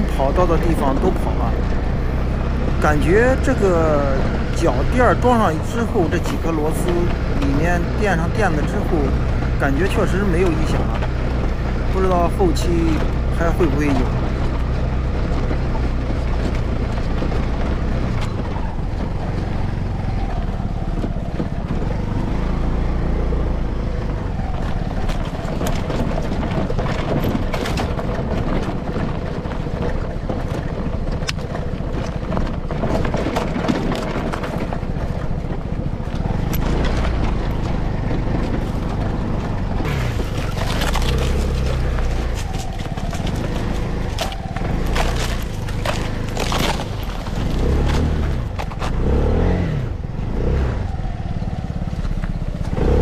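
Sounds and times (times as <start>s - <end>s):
knocks from rough road: 0.0s - 51.0s
scooter engine running: 0.0s - 53.0s
wind and road noise: 0.0s - 53.0s.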